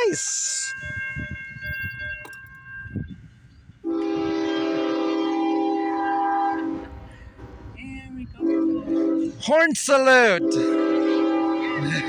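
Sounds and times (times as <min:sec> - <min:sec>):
locomotive air horn chord: 0:00.0 - 0:07.6, 0:08.2 - 0:12.0
freight train rumbling: 0:00.0 - 0:12.0.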